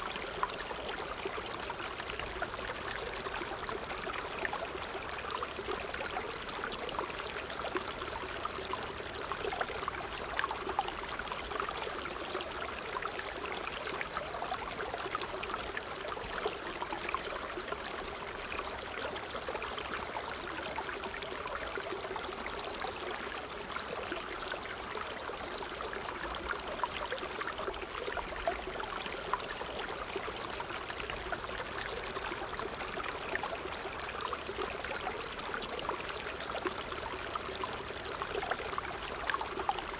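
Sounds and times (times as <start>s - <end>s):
creek running over rocks: 0.0s - 39.9s.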